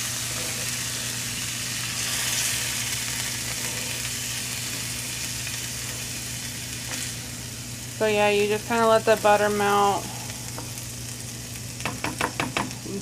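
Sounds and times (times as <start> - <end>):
low steady hum: 0.0 - 13.0
rice sizzling in a hot pan: 0.0 - 13.0.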